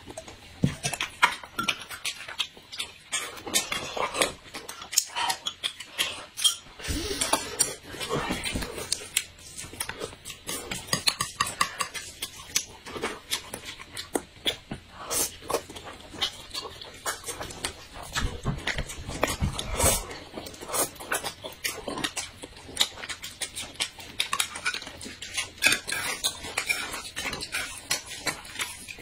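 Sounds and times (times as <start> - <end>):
chewing and slurping noodles: 0.2 - 29.0.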